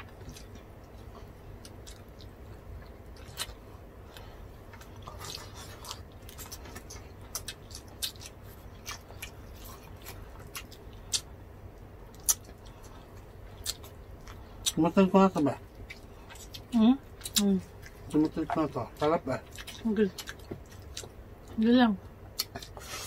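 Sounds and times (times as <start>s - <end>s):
people chewing and lip smacking: 0.0s - 23.0s.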